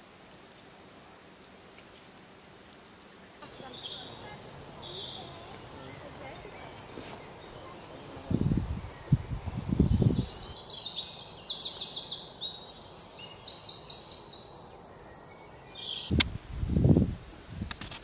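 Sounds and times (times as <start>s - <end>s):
songbirds singing: 0.9s - 17.0s.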